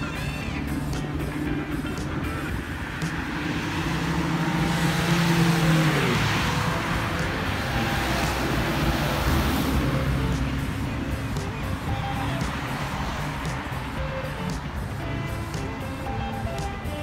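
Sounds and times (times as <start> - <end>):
steady traffic noise: 0.0 - 17.0
vehicle engine passing by: 0.0 - 17.0.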